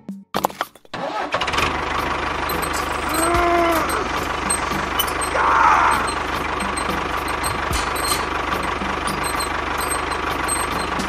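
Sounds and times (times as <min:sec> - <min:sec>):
motor running with low pulse: 0:01.6 - 0:11.0.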